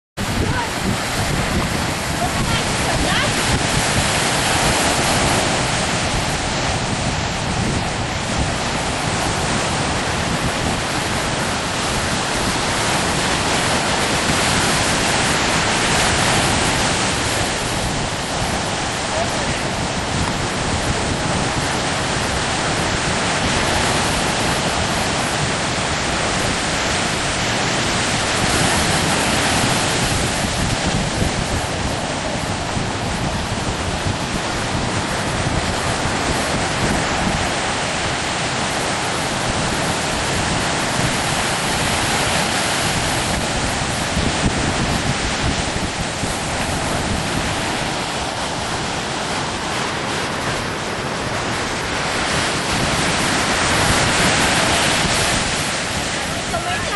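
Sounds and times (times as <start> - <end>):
storm wind on microphone: 0.2 - 56.9.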